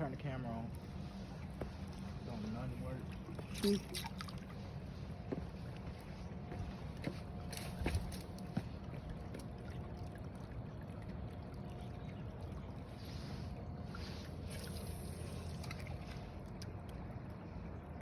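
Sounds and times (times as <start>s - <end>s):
low outdoor rumble: 0.0s - 18.0s
trickling water: 0.0s - 18.0s.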